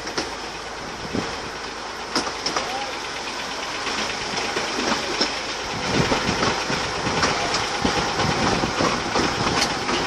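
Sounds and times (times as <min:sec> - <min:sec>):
train rumble: 0:00.0 - 0:10.0
wheels clicking over rail joints: 0:00.0 - 0:10.0.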